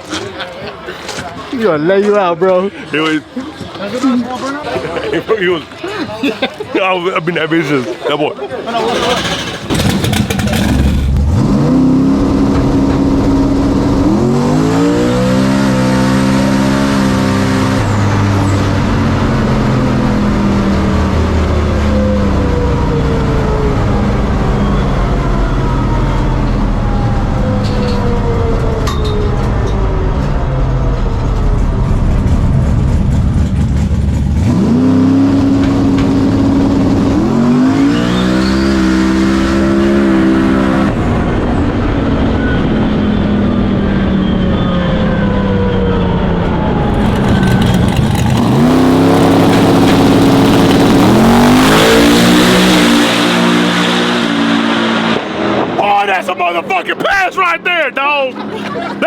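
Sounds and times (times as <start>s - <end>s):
truck engine at full throttle: 8.6s - 59.0s.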